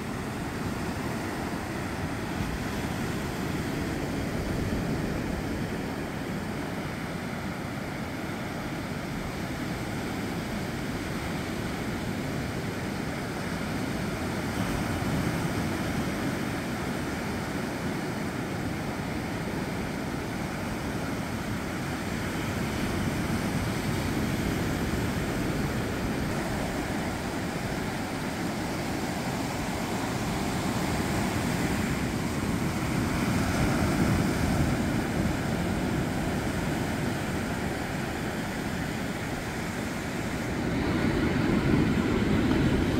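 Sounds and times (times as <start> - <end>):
sea waves breaking on beach: 0.0 - 42.9.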